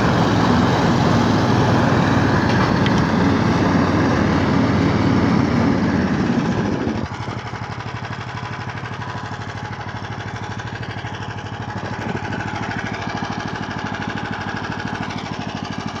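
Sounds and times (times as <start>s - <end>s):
small single-cylinder engine running: 0.0s - 16.0s.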